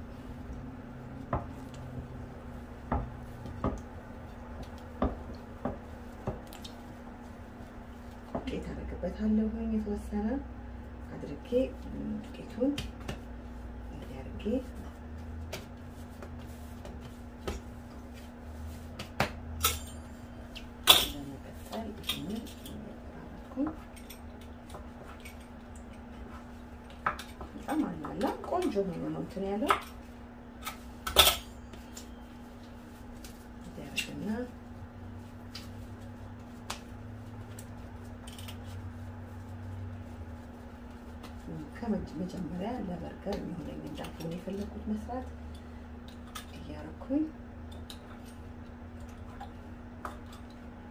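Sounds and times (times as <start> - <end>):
hands kneading dough: 0.0 - 19.6, 20.2 - 50.9
steady low hum: 0.0 - 50.9.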